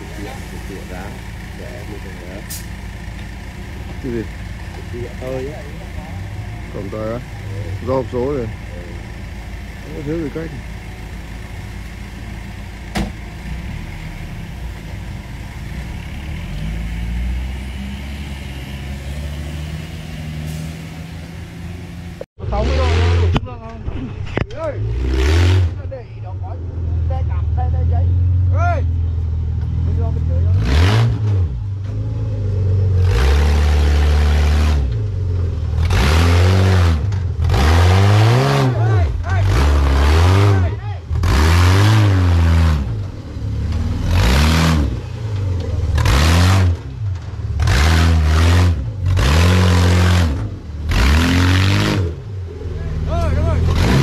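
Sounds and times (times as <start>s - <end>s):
buggy engine running: 0.0s - 20.3s, 21.0s - 54.0s.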